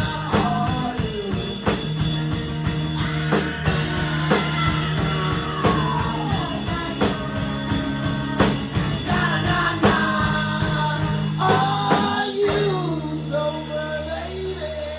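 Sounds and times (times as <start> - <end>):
person singing: 0.0 - 2.0, 3.4 - 14.9
bass guitar: 0.0 - 14.9
drum kit: 0.0 - 14.9
electric guitar: 0.0 - 14.9.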